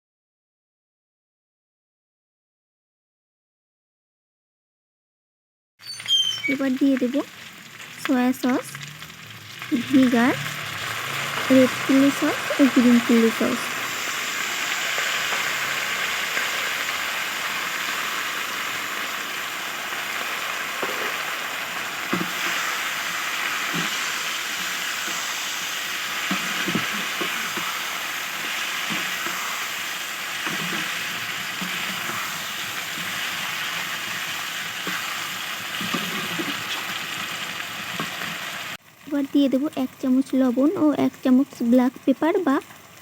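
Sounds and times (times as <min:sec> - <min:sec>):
food sizzling in hot oil: 0:05.8 - 0:43.0.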